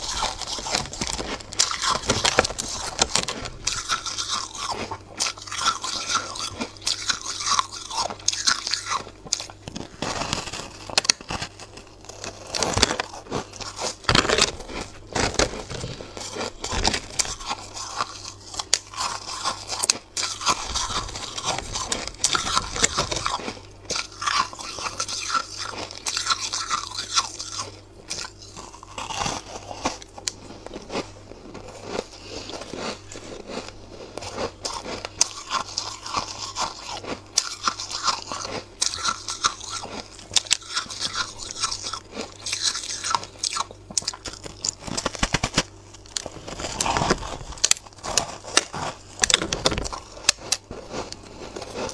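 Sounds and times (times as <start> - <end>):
ice block crunching while chewed: 0.0 - 51.9.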